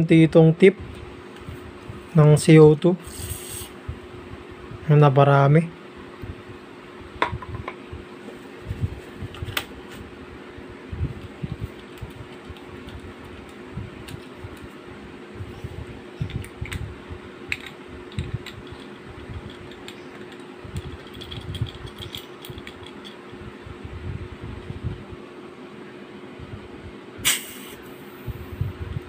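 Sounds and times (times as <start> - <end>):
steady fan hum: 0.0 - 29.0.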